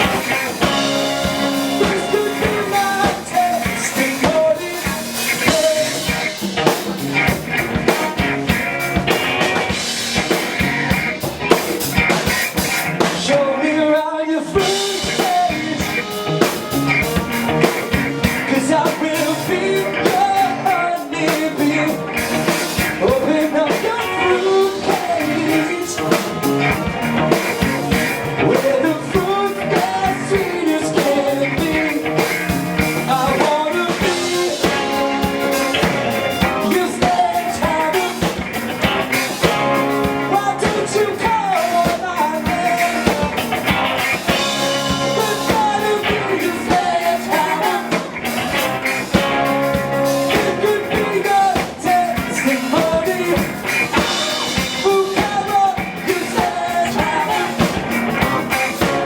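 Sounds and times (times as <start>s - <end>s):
lead vocals singing: 0.0s - 10.6s, 13.0s - 59.0s
live rock band playing: 0.0s - 59.0s.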